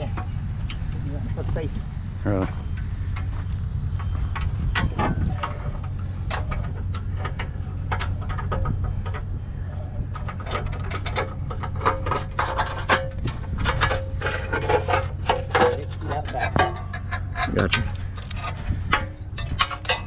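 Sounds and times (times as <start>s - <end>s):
faint steady whine: 0.0s - 20.0s
vehicle engine running: 0.0s - 20.0s
metallic clanks and clicks: 2.4s - 20.0s.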